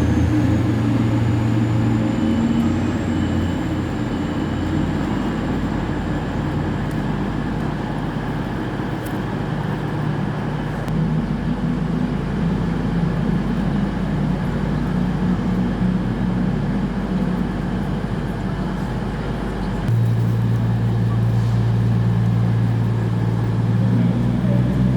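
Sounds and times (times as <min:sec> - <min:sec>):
train engine humming: 0:00.0 - 0:24.9.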